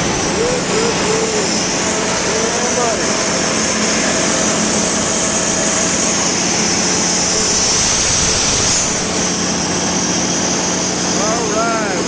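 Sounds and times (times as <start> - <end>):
high hiss: 0.0 - 11.6
generator engine running: 0.0 - 12.0.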